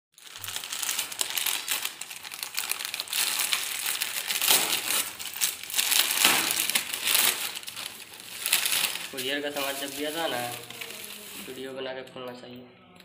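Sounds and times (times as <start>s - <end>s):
plastic bag crinkling: 0.2s - 11.8s.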